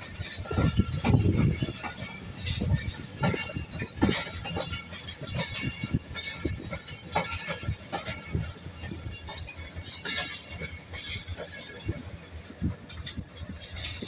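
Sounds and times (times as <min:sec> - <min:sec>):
metallic clinks and thuds: 0:00.0 - 0:14.0
train wheels clattering over joints: 0:00.0 - 0:14.0.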